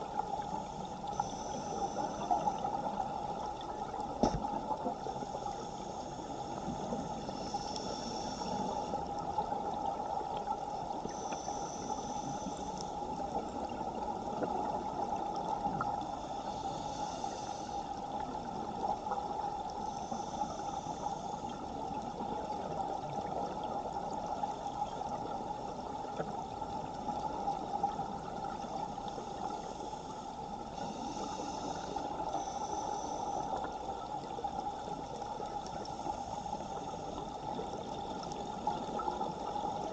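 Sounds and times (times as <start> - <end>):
rushing water hiss underwater: 0.0 - 39.9.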